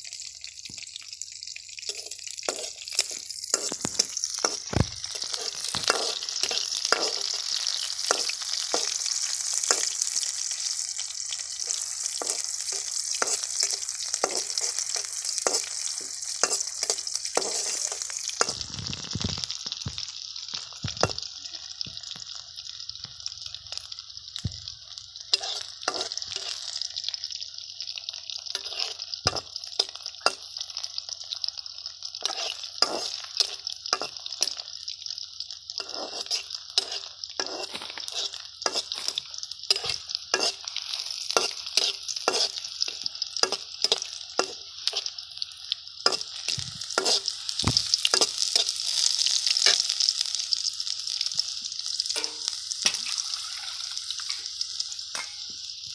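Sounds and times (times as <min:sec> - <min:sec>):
fish sizzling in hot oil: 0:00.0 - 0:55.9.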